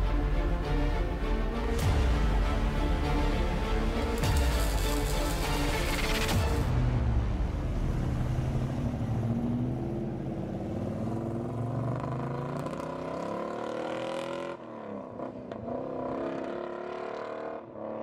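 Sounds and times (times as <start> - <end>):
car engine rumbling and accelerating: 0.0 - 18.0.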